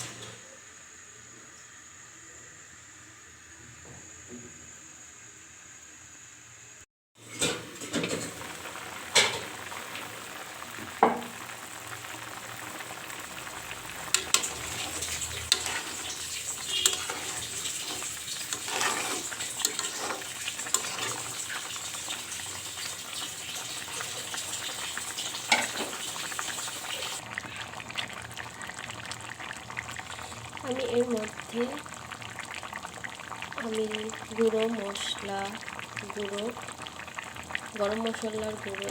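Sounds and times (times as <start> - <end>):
curry sizzling in a pan: 7.2 - 38.9.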